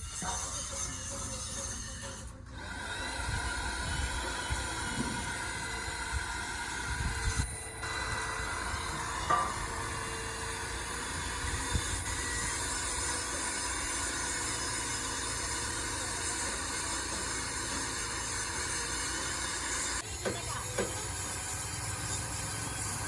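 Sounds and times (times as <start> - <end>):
machine running with hiss: 0.1 - 23.0.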